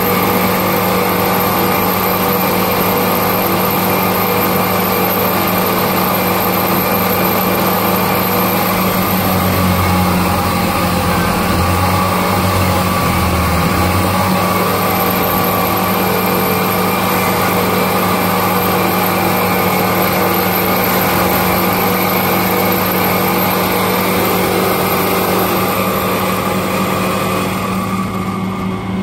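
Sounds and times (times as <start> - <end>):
railway machine humming: 0.0 - 29.0.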